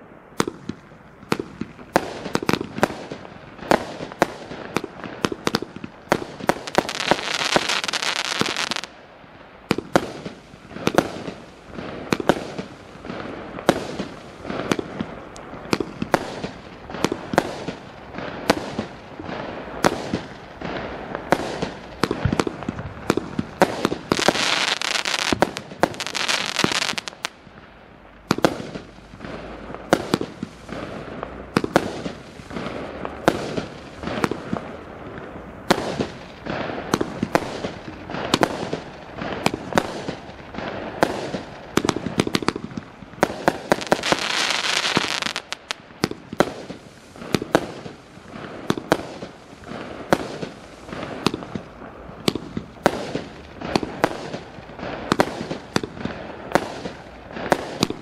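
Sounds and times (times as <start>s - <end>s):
fireworks firing: 0.0s - 58.0s
hissing fireworks crackle: 0.0s - 58.0s.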